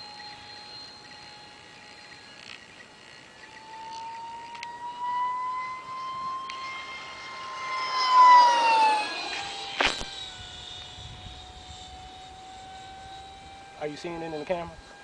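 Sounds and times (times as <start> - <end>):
model jet fan whine passing: 0.0 - 15.0.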